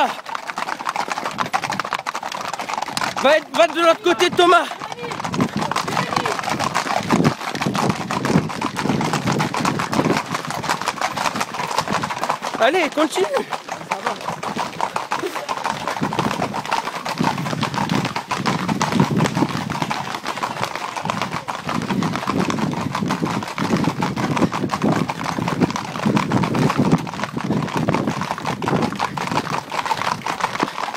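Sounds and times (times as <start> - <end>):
hooves clattering on asphalt: 0.0 - 30.9.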